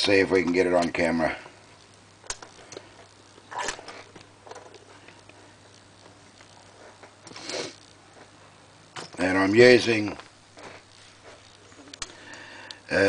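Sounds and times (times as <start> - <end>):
handling clicks and rustles: 0.0 - 12.8
low steady hum: 0.0 - 13.0
breathy hiss: 1.0 - 8.7, 9.3 - 13.0.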